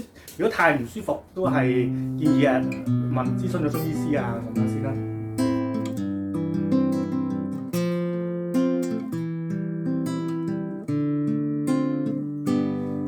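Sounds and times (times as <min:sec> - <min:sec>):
acoustic guitar strumming: 0:01.4 - 0:13.0.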